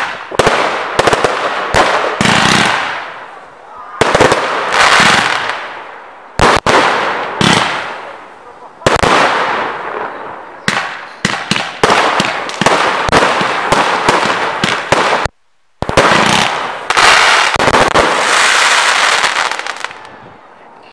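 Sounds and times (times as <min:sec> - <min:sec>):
fireworks firing: 0:00.0 - 0:20.2.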